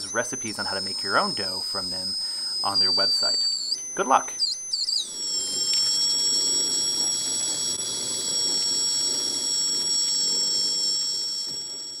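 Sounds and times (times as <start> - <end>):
high-pitched electronic whistle: 0.0 - 12.0.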